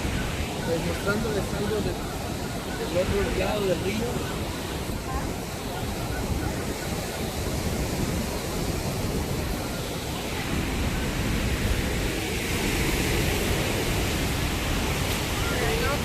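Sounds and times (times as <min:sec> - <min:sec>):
river water and waterfall rushing: 0:00.0 - 0:16.0.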